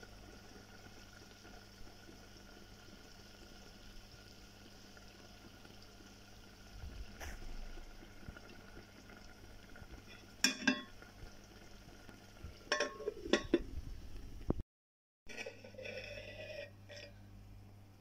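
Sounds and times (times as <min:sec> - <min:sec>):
faint bubbling: 0:00.0 - 0:14.6.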